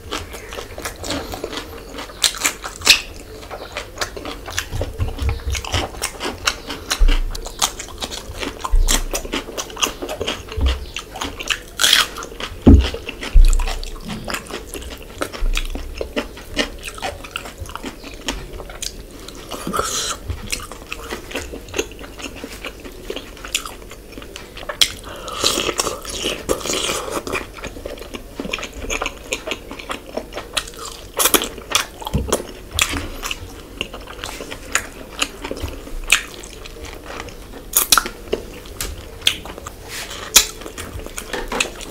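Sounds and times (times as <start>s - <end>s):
biting and chewing food: 0.0s - 41.9s.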